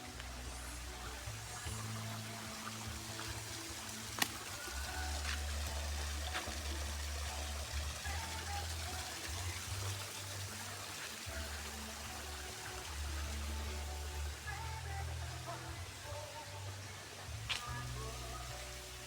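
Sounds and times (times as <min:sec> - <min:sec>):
water flowing in a stream: 0:00.0 - 0:19.0.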